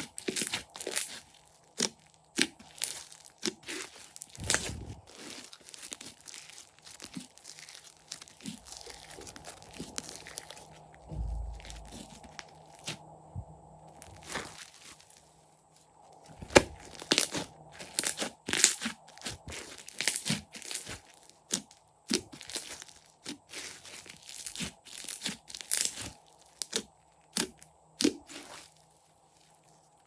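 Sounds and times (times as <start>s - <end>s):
crunchy slime crackling and popping: 0.0s - 13.0s, 13.9s - 15.3s, 16.1s - 29.7s.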